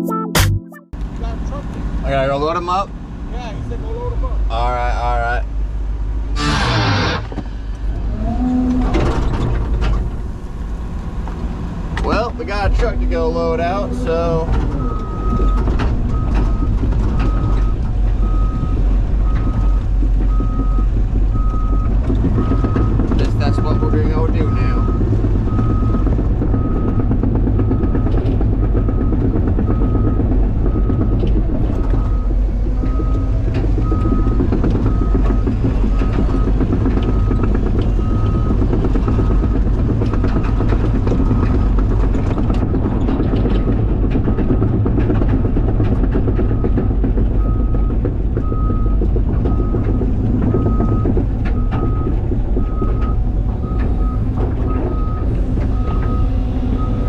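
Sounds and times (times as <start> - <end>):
excavator diesel engine rumbling: 1.0 - 57.0.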